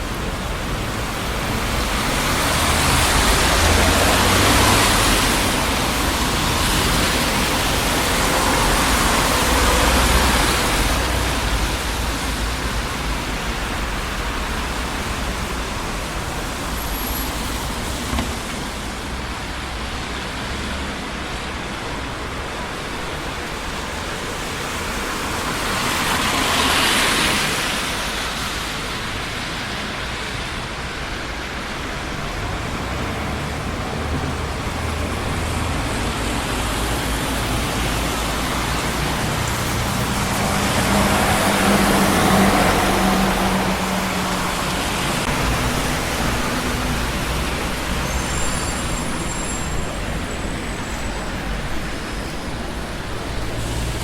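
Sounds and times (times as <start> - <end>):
city street traffic: 0.0 - 54.0
vehicles passing close by: 0.0 - 54.0.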